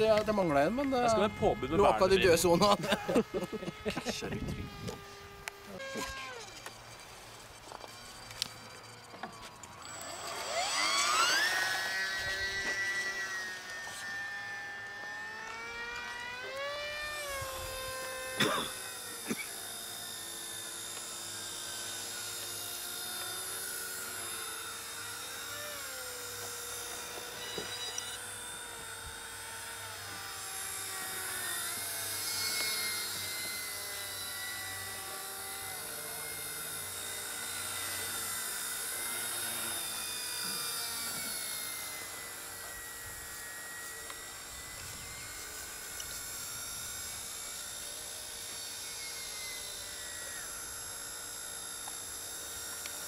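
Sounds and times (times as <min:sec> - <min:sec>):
model aircraft motor whine: 0:00.0 - 0:53.0.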